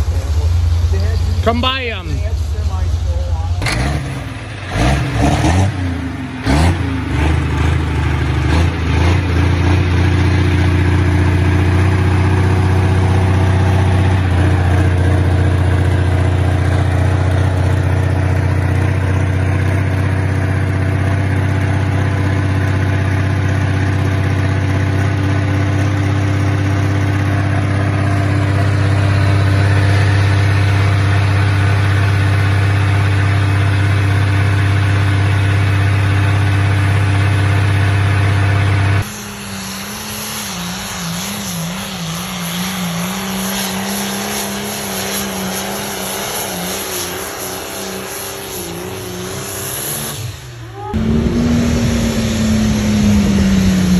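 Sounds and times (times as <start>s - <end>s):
tractor engine revving and idling: 0.0s - 53.9s.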